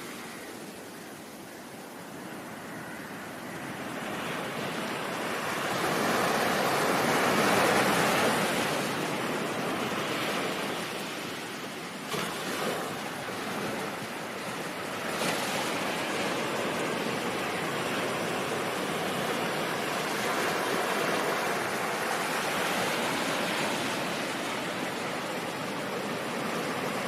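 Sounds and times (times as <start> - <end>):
ocean waves washing: 0.0 - 27.0.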